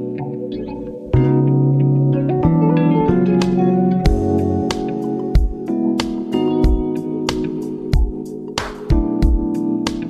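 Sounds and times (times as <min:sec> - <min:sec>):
plucked string instrumental: 0:00.0 - 0:09.7.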